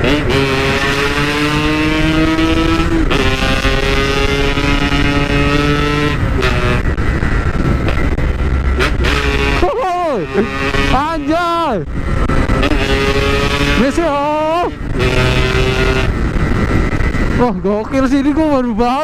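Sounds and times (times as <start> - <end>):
two-stroke motorcycle engine accelerating: 0.0 - 18.1.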